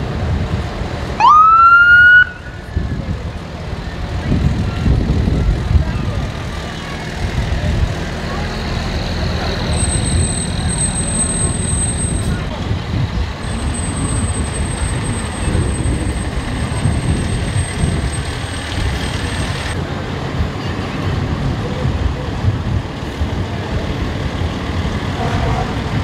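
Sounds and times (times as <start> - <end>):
fire truck engines rumbling: 0.0 - 26.0
people talking: 2.2 - 26.0.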